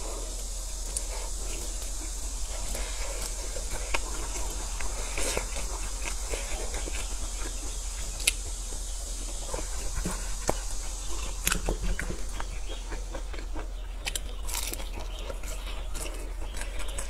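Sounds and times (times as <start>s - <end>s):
person chewing wetly: 0.0s - 17.0s
steady hiss: 0.0s - 17.0s.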